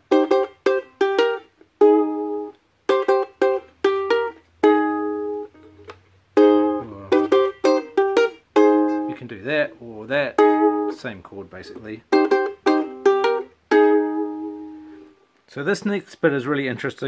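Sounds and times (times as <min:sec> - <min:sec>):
ukulele strumming chords: 0:00.0 - 0:15.1.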